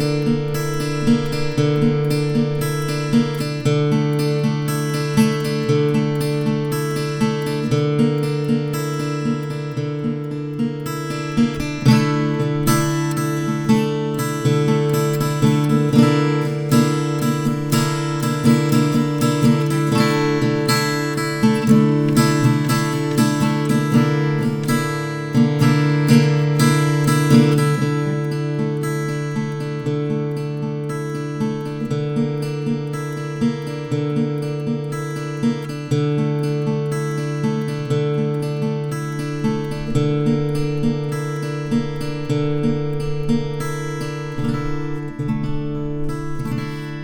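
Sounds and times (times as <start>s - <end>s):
acoustic guitar strummed chords: 0.0s - 47.0s.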